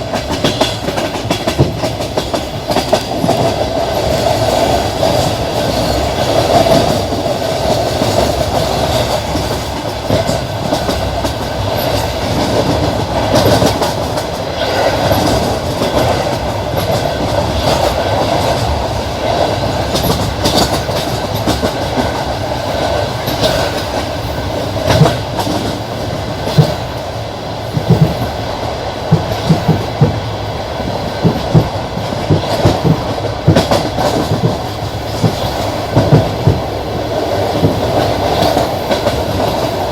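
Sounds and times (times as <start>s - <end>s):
wheels clacking over rail joints: 0.0s - 27.1s, 27.7s - 39.9s
train wheels rumbling: 0.0s - 39.9s.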